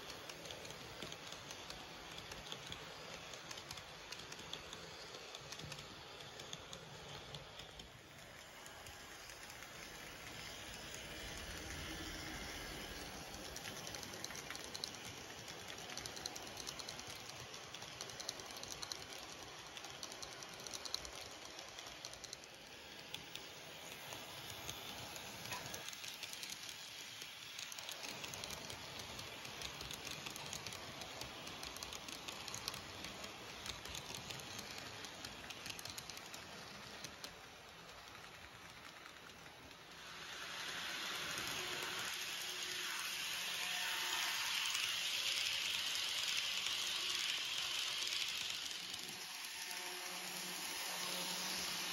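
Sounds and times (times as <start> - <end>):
model train wheels clicking on rails: 0.0 - 51.9.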